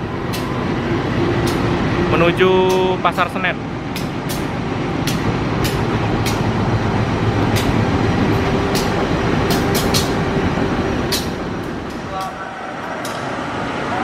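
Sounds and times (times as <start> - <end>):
train rumble: 0.0 - 14.0
train wheel clacks: 1.4 - 3.3, 3.9 - 13.3.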